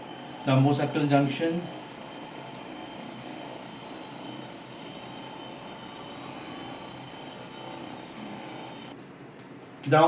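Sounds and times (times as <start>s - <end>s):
faint high whine: 0.0s - 9.0s
air conditioner humming: 0.0s - 10.0s.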